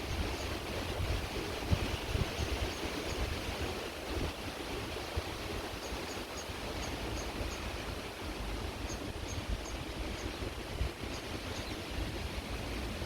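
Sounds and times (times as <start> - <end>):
creek water running: 0.0 - 13.0
wind gusting on microphone: 0.0 - 13.0.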